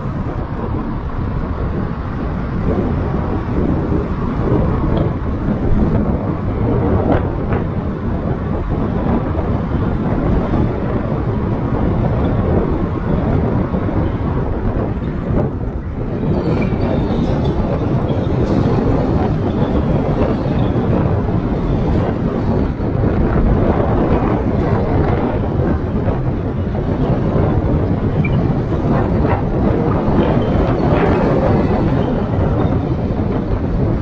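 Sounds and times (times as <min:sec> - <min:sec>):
tyre and wind noise: 0:00.0 - 0:34.0
wind buffeting microphone: 0:00.0 - 0:34.0.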